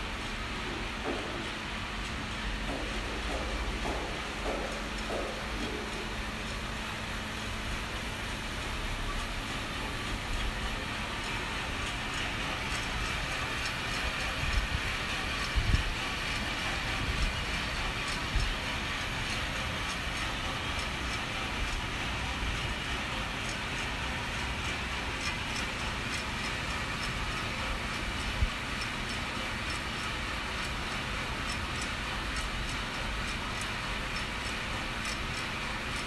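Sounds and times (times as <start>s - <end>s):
coffee roaster blower rushing: 0.0s - 36.0s
faint regular ticking: 0.1s - 36.0s.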